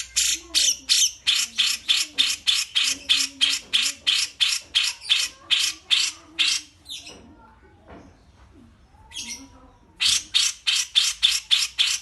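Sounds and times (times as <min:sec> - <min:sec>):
bulbul harsh rasping calls: 0:00.0 - 0:07.2, 0:09.0 - 0:12.0.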